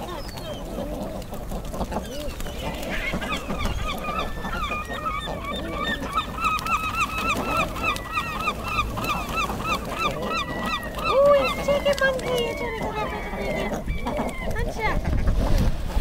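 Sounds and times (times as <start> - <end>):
ducks honking chatter: 0.4 - 15.2.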